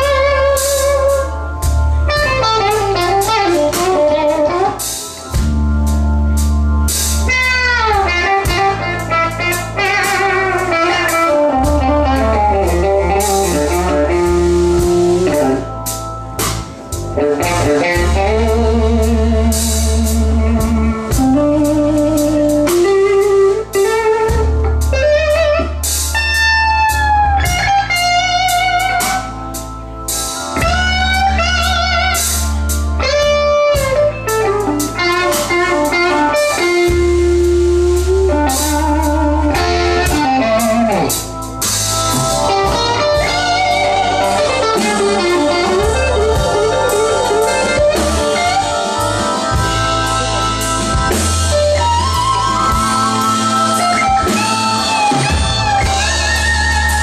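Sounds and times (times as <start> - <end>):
bass notes: 0.0 - 57.0
drums: 0.0 - 57.0
electric guitar lead: 0.0 - 57.0.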